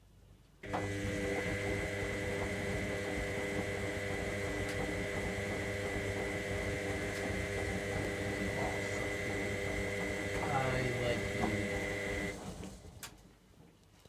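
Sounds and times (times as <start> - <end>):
washing machine running: 0.6 - 13.0.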